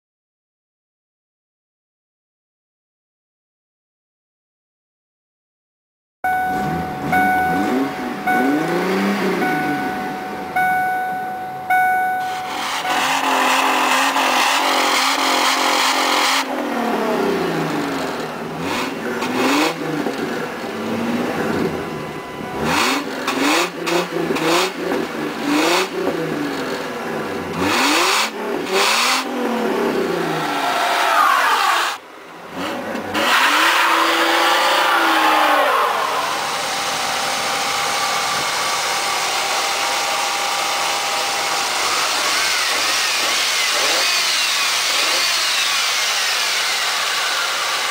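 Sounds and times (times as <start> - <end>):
car engine revving: 6.3 - 47.9.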